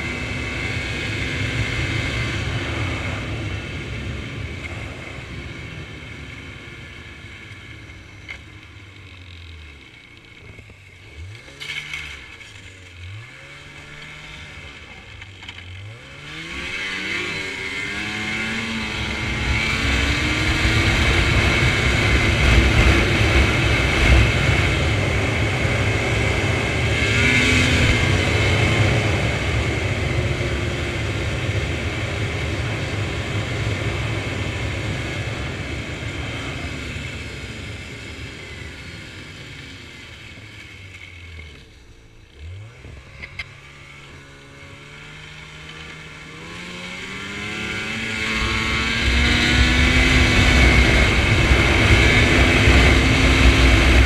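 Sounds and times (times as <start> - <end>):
snowmobile engine: 0.0 - 54.0.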